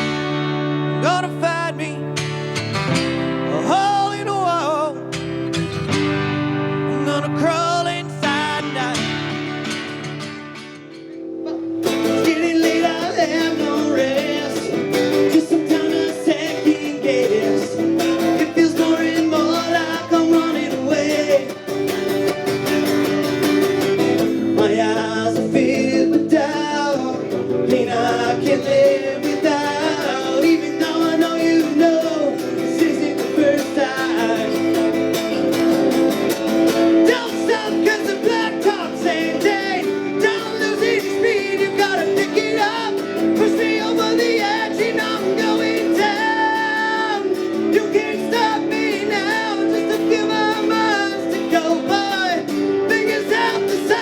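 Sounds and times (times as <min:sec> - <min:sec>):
live country-rock band: 0:00.0 - 0:54.0.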